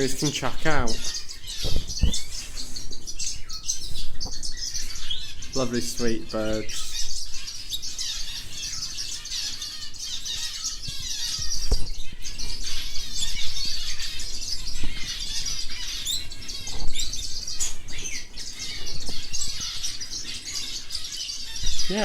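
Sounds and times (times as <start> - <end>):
canaries chirping: 0.0 - 22.0.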